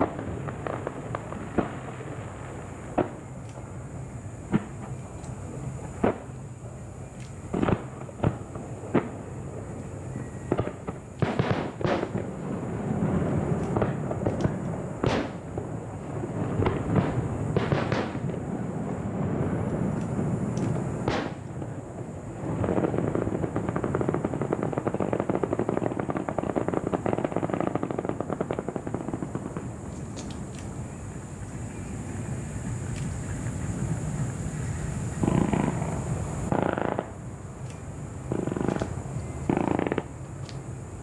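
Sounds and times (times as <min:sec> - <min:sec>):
firework shells bursting with bangs: 0:00.0 - 0:30.9, 0:35.0 - 0:40.7
dense firework crackling: 0:00.0 - 0:41.0.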